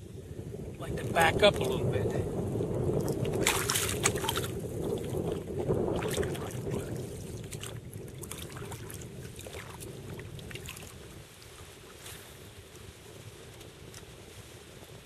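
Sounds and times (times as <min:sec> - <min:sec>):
kayak paddle splashing: 0:02.4 - 0:15.0
water lapping and trickling: 0:02.5 - 0:15.0.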